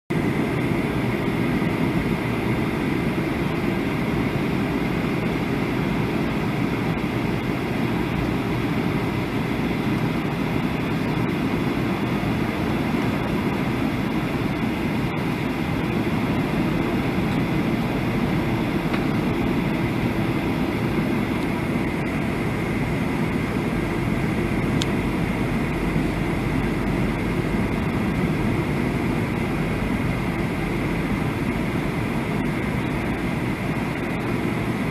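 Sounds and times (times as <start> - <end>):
aircraft engines rumbling: 0.1 - 34.9.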